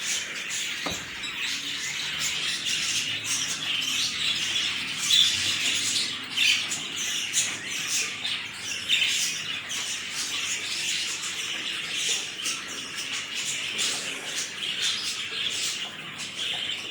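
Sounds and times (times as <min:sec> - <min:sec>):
budgerigars chattering: 0:00.0 - 0:16.9.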